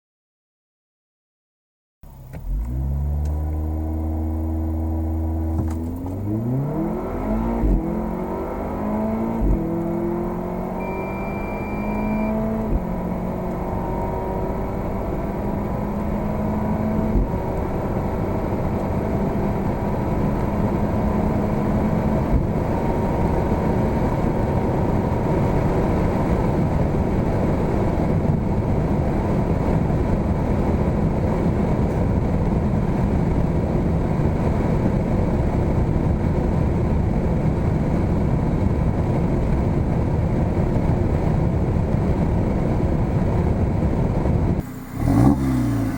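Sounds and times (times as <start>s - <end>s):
car engine accelerating: 2.0s - 45.9s
wind and road noise: 2.0s - 45.9s.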